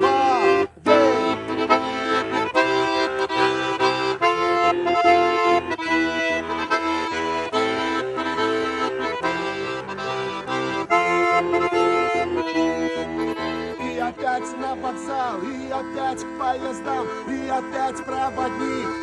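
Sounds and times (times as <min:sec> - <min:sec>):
button accordion playing: 0:00.0 - 0:19.0.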